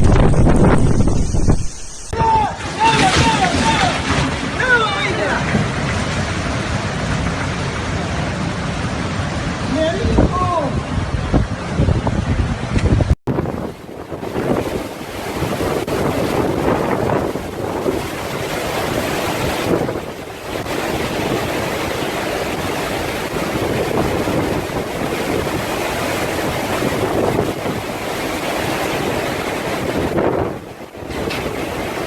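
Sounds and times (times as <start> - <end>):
hurricane wind on microphone: 0.0 - 32.0.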